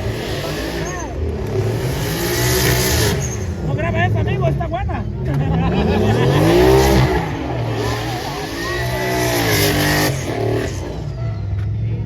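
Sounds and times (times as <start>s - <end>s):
truck engine revving: 0.0s - 11.2s.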